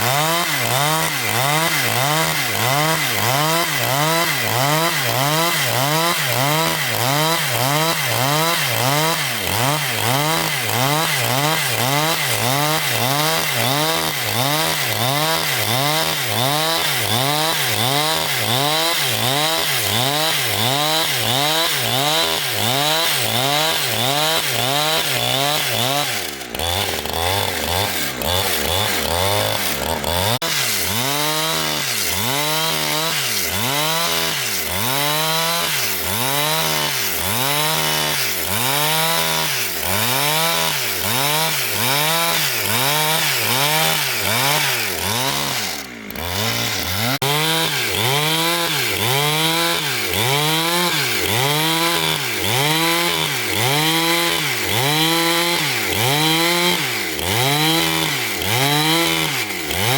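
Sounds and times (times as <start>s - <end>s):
chainsaw sawing wood: 0.0s - 59.9s.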